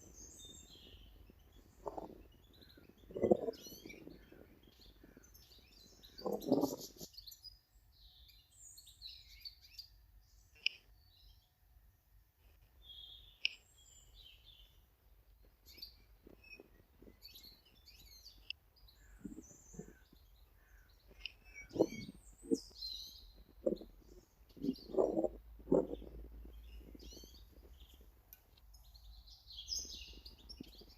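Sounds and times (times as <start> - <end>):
small birds chirping: 0.0 - 11.8, 12.4 - 30.9.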